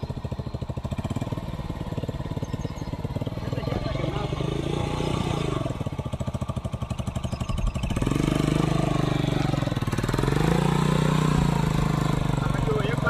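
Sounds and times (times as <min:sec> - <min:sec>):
single-cylinder engine chugging: 0:00.0 - 0:13.0.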